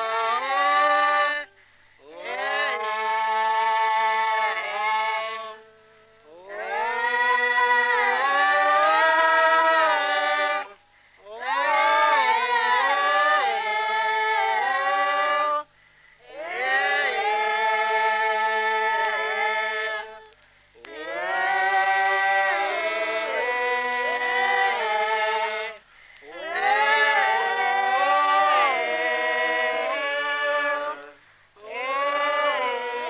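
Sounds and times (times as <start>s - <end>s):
group singing unaccompanied: 0.0s - 33.0s.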